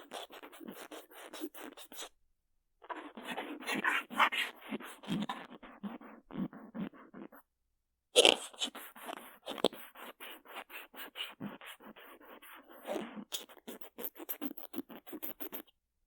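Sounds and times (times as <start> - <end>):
cotton swab rubbing on earphone: 0.0 - 2.1, 2.9 - 7.4, 8.2 - 15.7.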